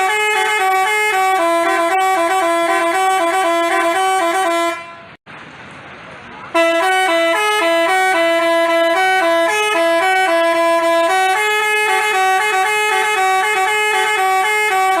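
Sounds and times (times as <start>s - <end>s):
bus horn playing a tune: 0.0s - 5.2s, 6.5s - 15.0s.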